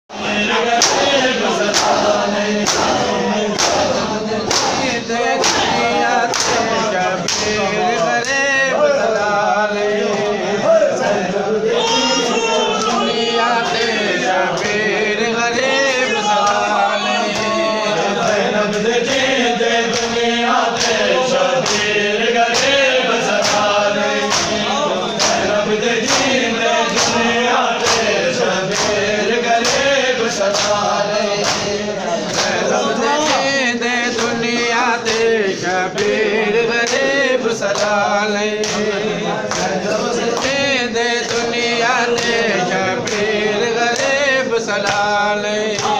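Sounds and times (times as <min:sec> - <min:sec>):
men chanting in unison: 0:00.1 - 0:45.9
rhythmic chest-beating hand slaps: 0:00.1 - 0:45.9.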